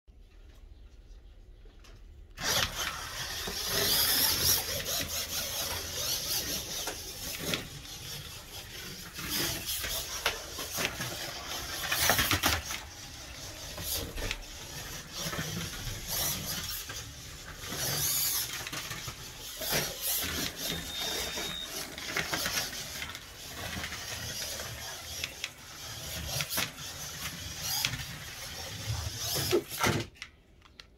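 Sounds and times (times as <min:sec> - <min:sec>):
tyres scraping on gritty track: 0:02.4 - 0:27.8
slot car motor whining: 0:02.4 - 0:29.8.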